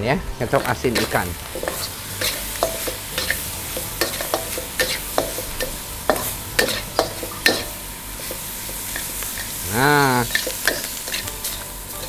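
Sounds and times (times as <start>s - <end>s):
shrimp sizzling in oil: 0.0s - 12.0s
metal spatula clanking on wok: 0.5s - 12.0s.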